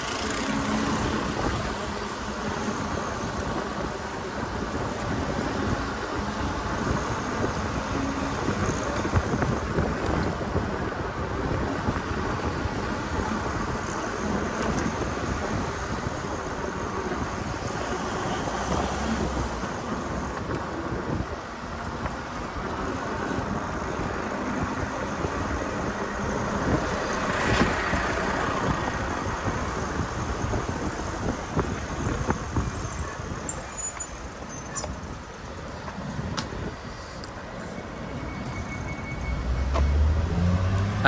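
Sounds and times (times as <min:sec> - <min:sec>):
traffic going by: 0:00.0 - 0:41.0
wind and road noise: 0:00.0 - 0:41.0.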